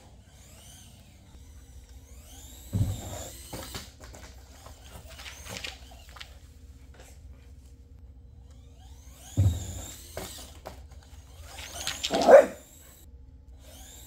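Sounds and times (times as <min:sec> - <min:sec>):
rc truck motor whine: 0:00.0 - 0:06.4, 0:08.1 - 0:14.0.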